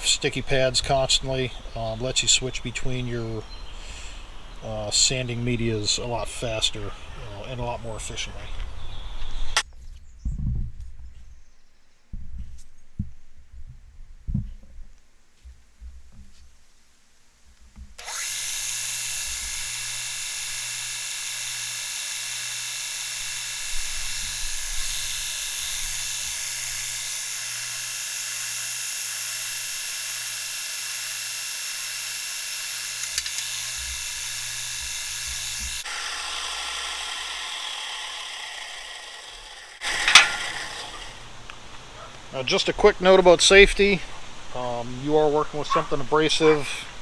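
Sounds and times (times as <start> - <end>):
electric motor whining and humming: 0.0 - 9.7, 18.0 - 47.0.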